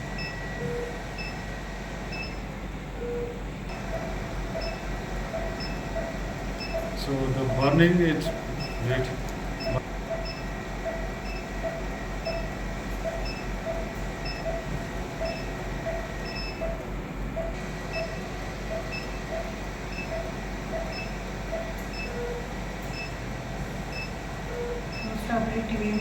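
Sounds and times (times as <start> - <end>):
machine hum: 0.0 - 26.0
medical equipment beeping: 0.0 - 26.0.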